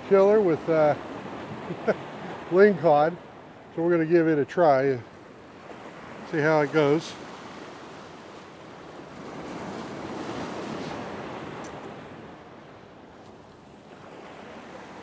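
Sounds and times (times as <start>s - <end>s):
ocean surf breaking on boulders: 0.0s - 15.0s.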